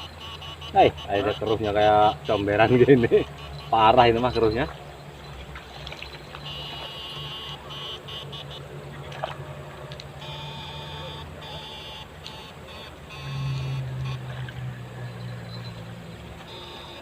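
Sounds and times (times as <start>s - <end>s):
high-pitched wavering buzzing: 0.0s - 5.4s, 6.0s - 9.0s, 10.2s - 17.0s.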